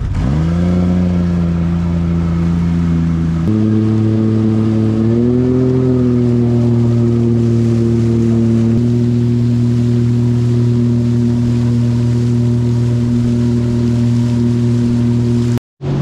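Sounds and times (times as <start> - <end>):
outboard motor revving: 0.0 - 16.0.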